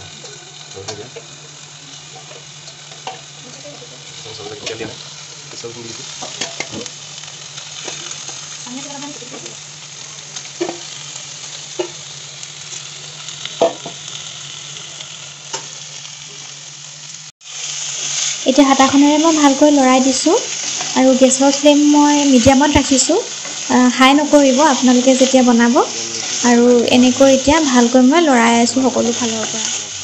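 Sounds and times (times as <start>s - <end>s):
meat sizzling in a pan: 0.0s - 30.0s.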